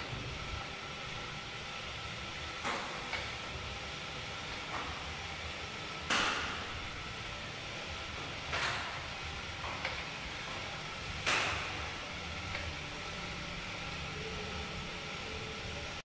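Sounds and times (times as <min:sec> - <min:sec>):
bike trainer whirring hum: 0:00.0 - 0:16.0.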